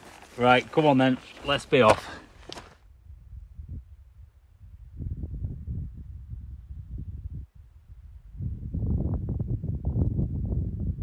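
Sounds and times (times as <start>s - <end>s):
wind buffeting the microphone: 1.4s - 11.0s.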